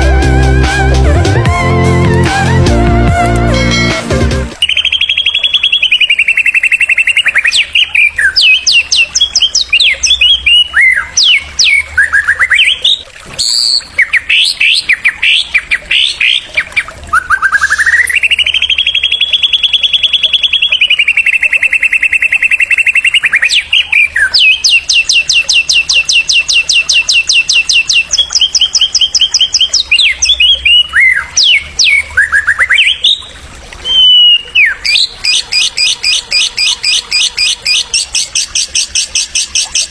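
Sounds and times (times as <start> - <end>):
bird singing trills and whistles: 4.6 - 39.9.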